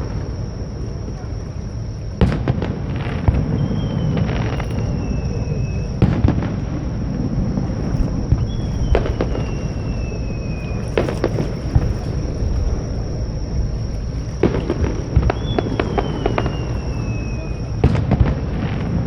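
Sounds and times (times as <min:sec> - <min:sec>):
fireworks bangs: 0:00.0 - 0:19.0
descending firework whistle: 0:02.0 - 0:19.0.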